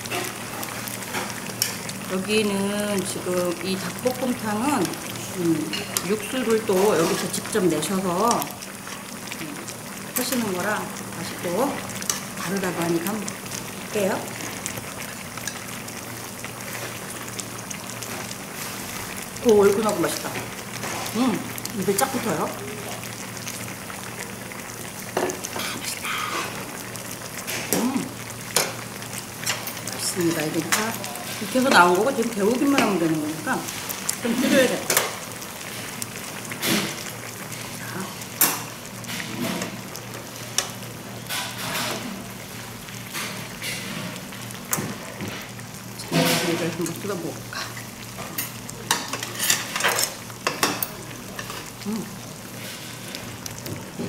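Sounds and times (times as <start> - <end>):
stew bubbling in a pot: 0.0 - 54.0.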